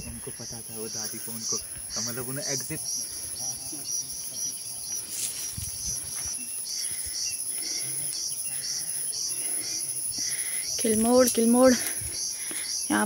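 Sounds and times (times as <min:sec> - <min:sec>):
insects droning: 0:00.0 - 0:13.0
pulsing insect call: 0:00.0 - 0:13.0.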